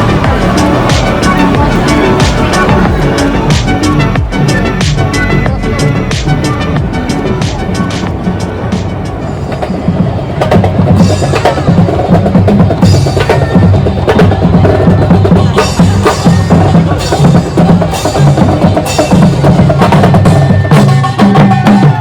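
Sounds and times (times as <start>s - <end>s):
music with percussive beat: 0.0s - 22.0s.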